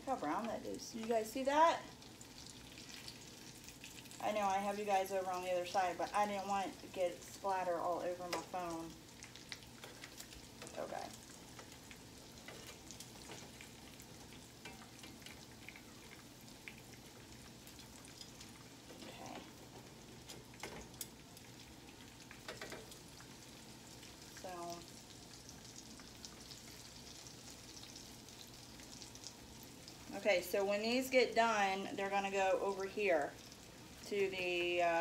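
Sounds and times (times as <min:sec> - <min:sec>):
food frying in oil: 0:00.0 - 0:35.0.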